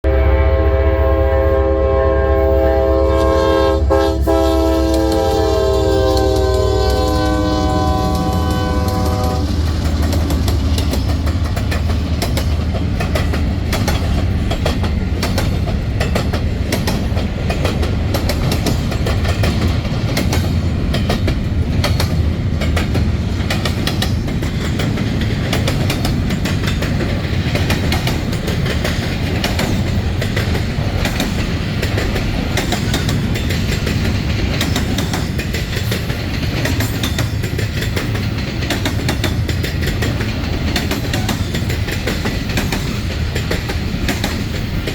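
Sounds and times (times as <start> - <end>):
diesel train rumble: 0.0 - 44.9
train wheels clattering on rails: 3.9 - 44.9.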